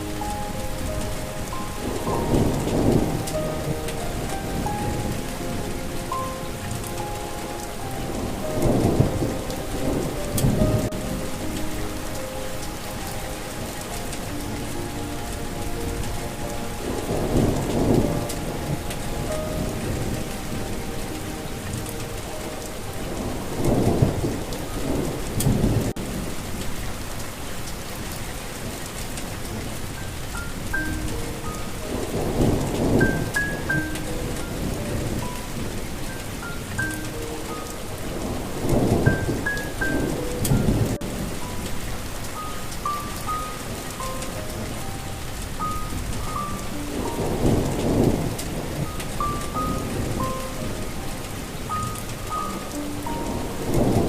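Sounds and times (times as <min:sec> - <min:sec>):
rolling thunder: 0:00.0 - 0:27.2, 0:28.0 - 0:54.0
soft melody of held notes: 0:00.0 - 0:54.0
steady rain: 0:00.0 - 0:54.0.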